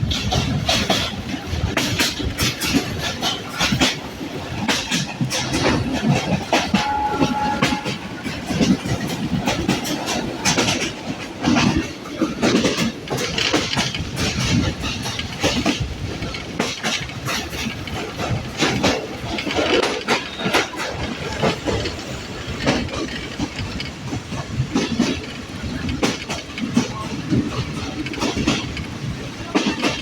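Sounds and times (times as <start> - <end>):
train rumble: 0.0 - 30.0
train wheels clattering on rails: 0.0 - 30.0.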